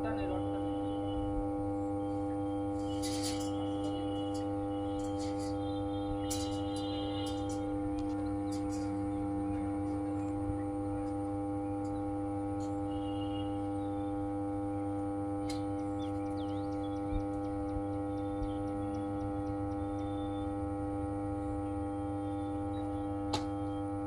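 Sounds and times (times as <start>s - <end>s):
transformer humming: 0.0s - 24.0s.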